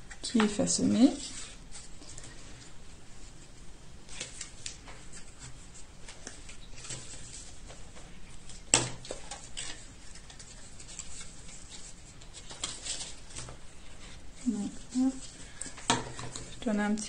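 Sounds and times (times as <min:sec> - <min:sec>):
paper rustling: 0:00.4 - 0:16.6.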